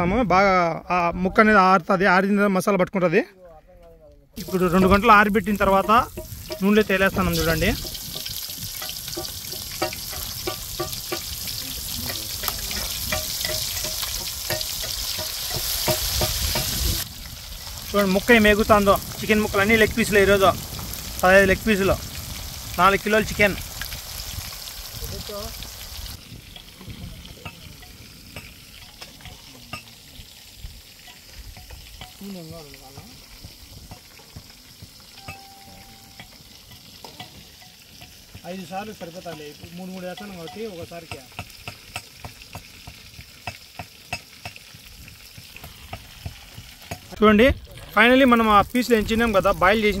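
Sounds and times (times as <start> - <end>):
chicken deep-frying in oil: 4.4 - 50.0.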